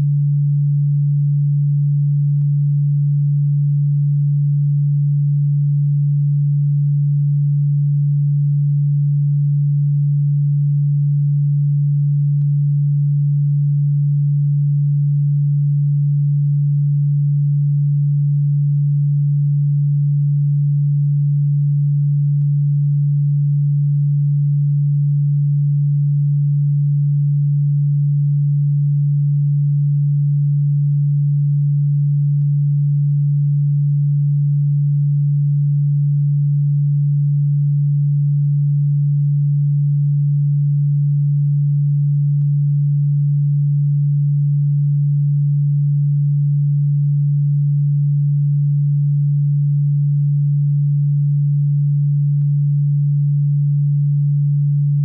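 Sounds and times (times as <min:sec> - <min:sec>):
low synthesized sine tone: 0:00.0 - 0:55.0.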